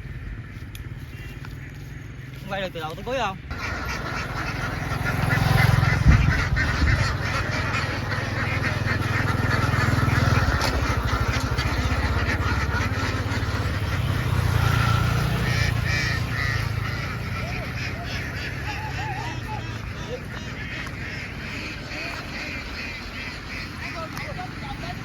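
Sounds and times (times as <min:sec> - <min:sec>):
ducks quacking and honking: 0:00.0 - 0:25.0.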